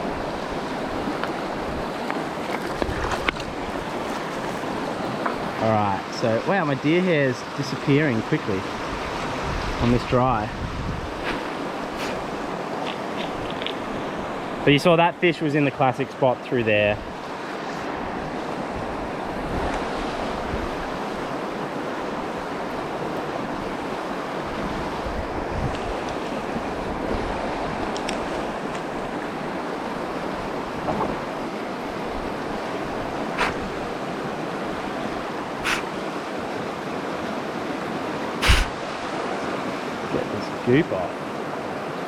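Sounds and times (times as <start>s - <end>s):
stream rushing over rocks: 0.0s - 15.8s, 17.2s - 42.0s.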